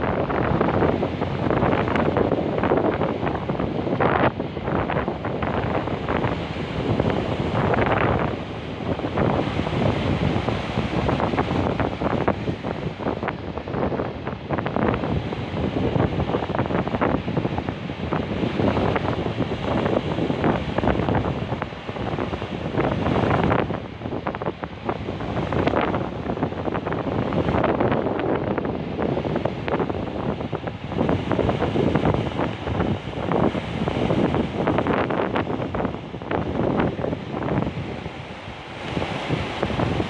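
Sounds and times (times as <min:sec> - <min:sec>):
sea waves breaking on shore: 0:00.0 - 0:40.0
wind buffeting microphone: 0:00.0 - 0:40.0.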